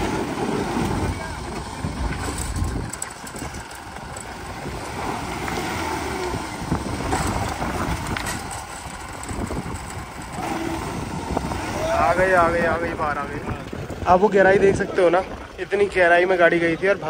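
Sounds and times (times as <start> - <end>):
diesel engine running under load: 0.0 - 17.0
wind on microphone: 0.0 - 17.0.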